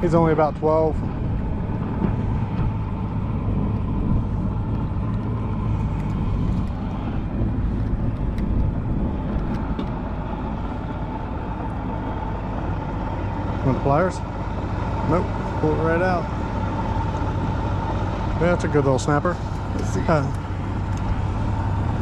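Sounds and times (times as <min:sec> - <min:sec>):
low mechanical rumble: 0:00.0 - 0:22.0.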